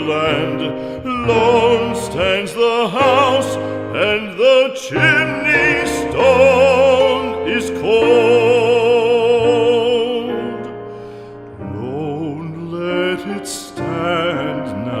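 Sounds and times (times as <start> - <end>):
operatic singer with vibrato: 0.0 - 10.8, 11.5 - 15.0
musical accompaniment: 0.0 - 15.0.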